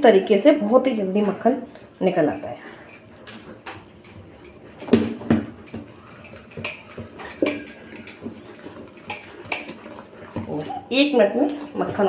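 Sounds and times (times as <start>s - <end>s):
whisk scraping metal bowl: 1.1s - 12.0s.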